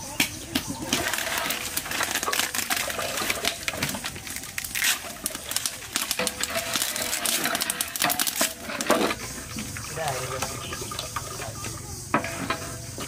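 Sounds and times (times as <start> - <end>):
metal skimmer clinking on a pot: 0.6 - 13.0
syrup pouring: 0.9 - 11.6.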